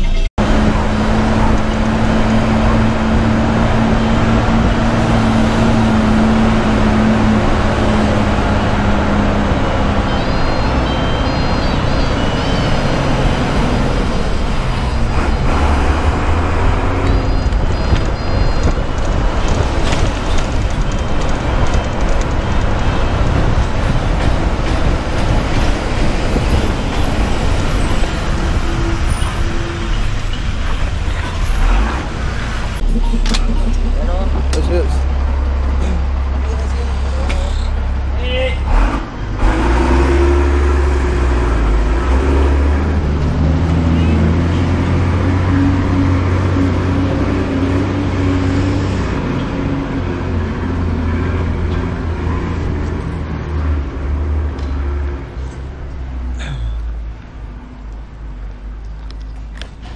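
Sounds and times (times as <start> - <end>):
bus engine humming: 0.0 - 59.9
road noise: 0.0 - 59.9.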